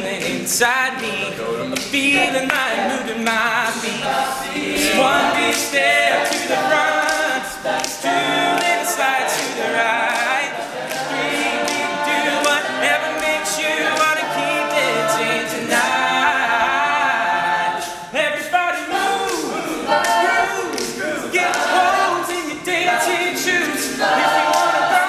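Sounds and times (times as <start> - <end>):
male group singing in harmony: 0.0 - 25.0.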